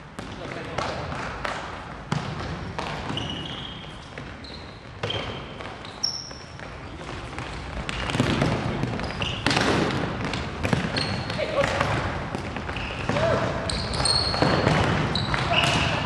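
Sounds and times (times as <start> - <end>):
shoes squeaking on court: 2.1 - 16.0.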